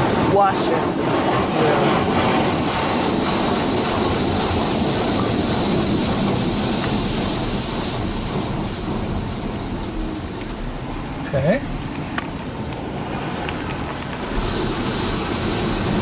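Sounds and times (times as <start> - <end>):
car wash water jets spraying: 0.0 - 16.0.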